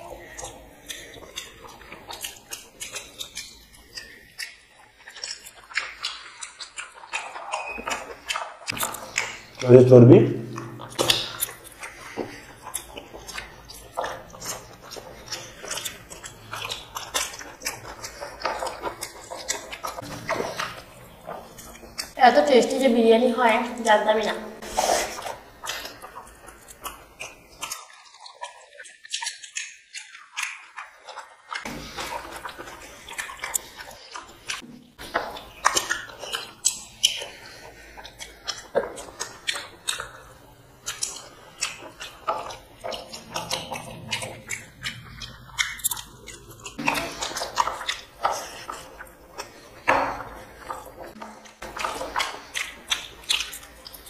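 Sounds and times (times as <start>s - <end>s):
lip smacks and clicks: 0.0s - 9.7s, 10.4s - 22.2s, 24.7s - 54.0s
people chewing food: 0.0s - 54.0s.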